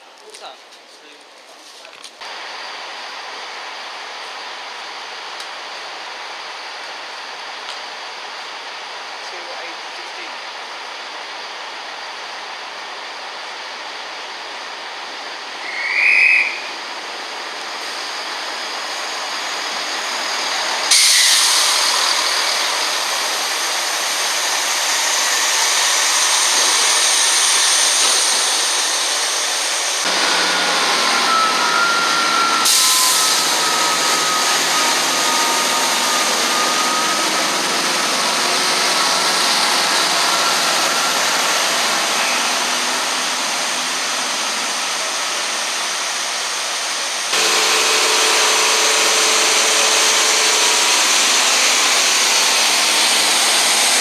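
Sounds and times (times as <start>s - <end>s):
train passing at speed: 2.2s - 54.0s.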